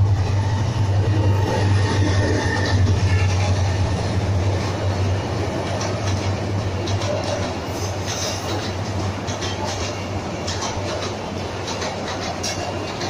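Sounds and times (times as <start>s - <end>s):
train rumbling past: 0.0s - 13.0s
wheels clacking over rail joints: 1.6s - 13.0s.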